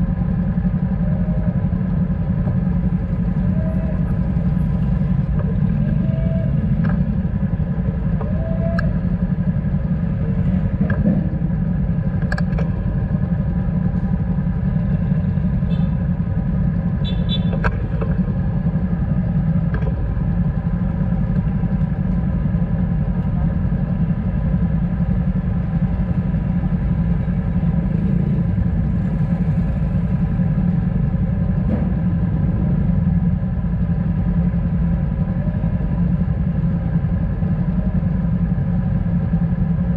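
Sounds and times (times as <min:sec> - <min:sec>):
motorcycle engines idling: 0:00.0 - 0:39.9.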